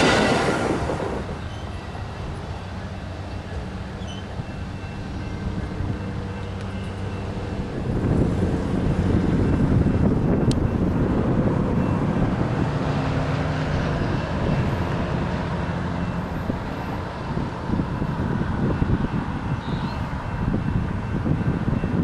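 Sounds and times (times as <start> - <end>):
diesel locomotive engines droning: 0.0 - 22.0
train rumbling past: 0.0 - 22.0.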